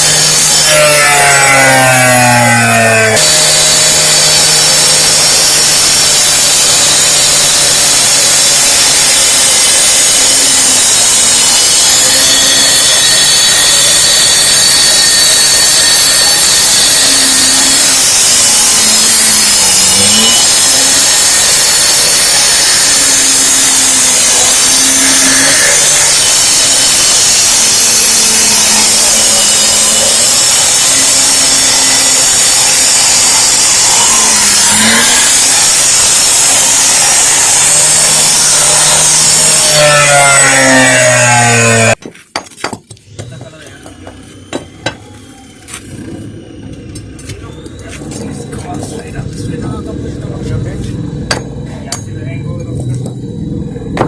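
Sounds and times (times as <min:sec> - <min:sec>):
concrete saw cutting concrete: 0:00.0 - 0:42.0, 0:42.6 - 0:54.0.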